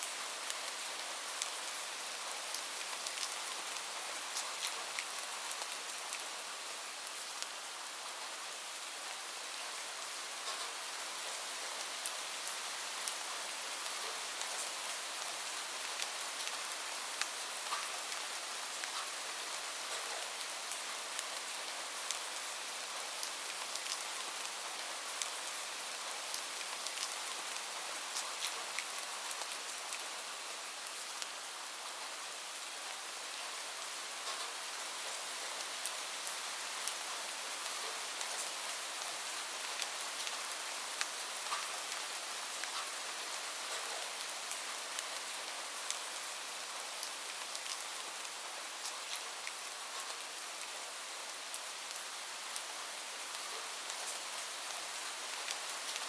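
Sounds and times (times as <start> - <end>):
rain ticking on hard surface: 0.0 - 56.0.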